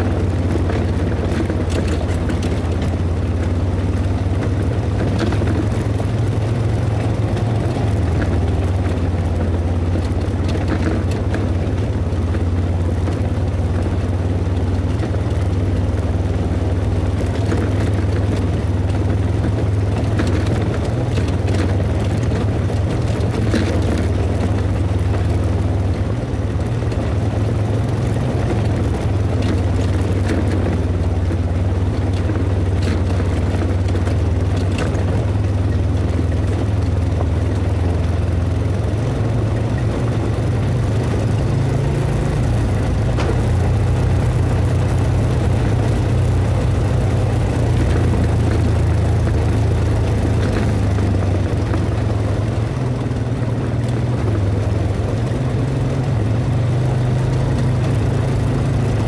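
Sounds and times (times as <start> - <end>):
atv engine running: 0.0 - 59.0
clicks and knocks on gravel: 0.0 - 59.0.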